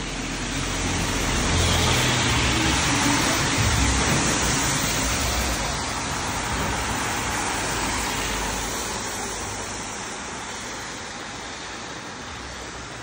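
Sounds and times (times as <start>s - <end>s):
rain falling: 0.0s - 13.0s
tyres on wet road: 0.0s - 13.0s.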